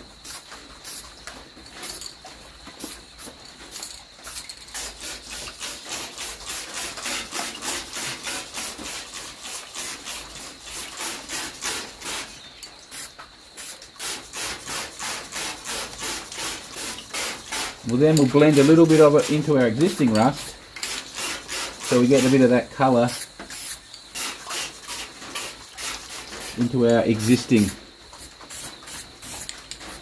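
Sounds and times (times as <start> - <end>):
spray bottle squirting water: 0.2 - 2.1, 2.8 - 30.0.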